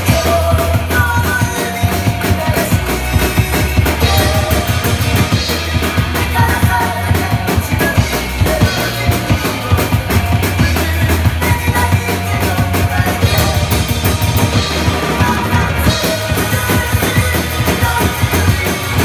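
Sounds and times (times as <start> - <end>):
drum kit played fast: 0.0 - 19.0
rock backing track: 0.0 - 19.0.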